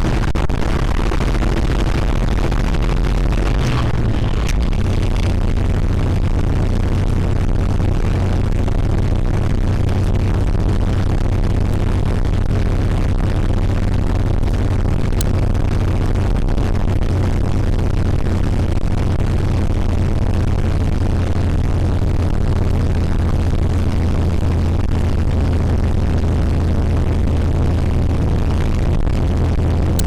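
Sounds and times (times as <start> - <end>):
vehicle engine droning: 0.0 - 30.0.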